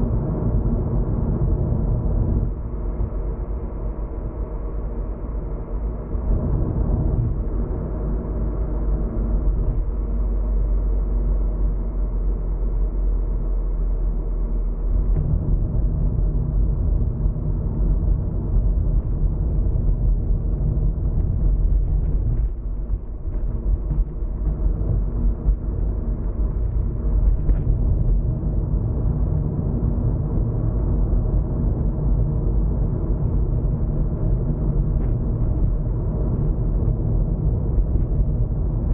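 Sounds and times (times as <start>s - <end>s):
engine and tyre rumble: 0.0s - 38.9s.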